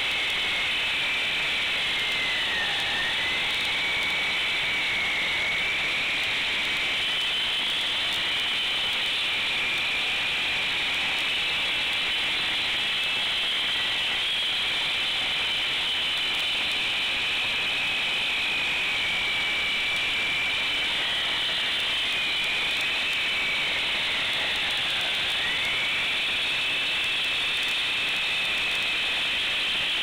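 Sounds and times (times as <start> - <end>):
concrete saw cutting: 0.0 - 30.0.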